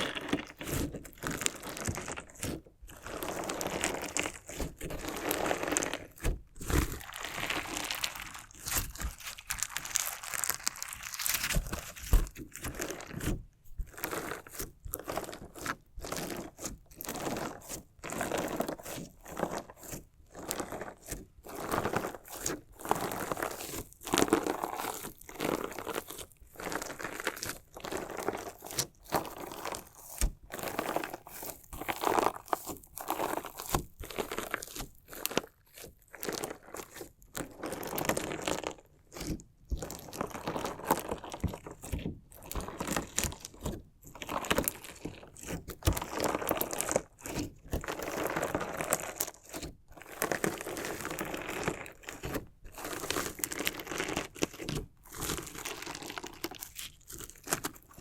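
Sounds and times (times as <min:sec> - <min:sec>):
crunchy slime squished by hand: 0:00.0 - 0:58.0.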